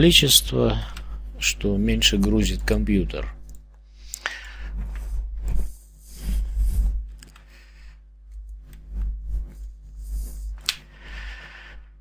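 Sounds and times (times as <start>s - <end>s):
low microphone hum and rumble: 0.0s - 12.0s.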